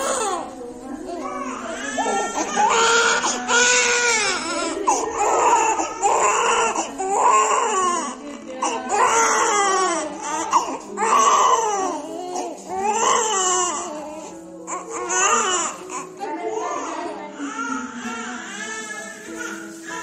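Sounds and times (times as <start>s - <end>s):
newborn baby crying: 0.0s - 0.5s, 1.2s - 20.0s.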